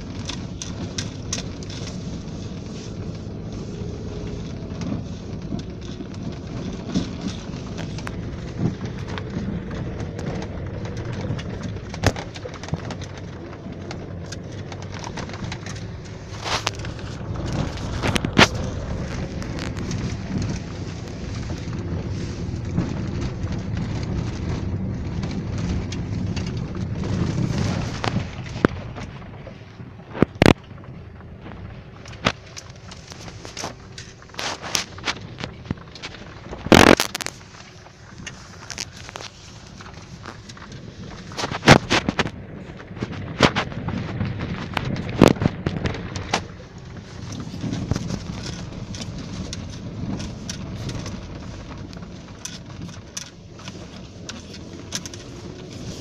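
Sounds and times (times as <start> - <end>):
vehicle engine and tyres rumbling: 0.0 - 56.0.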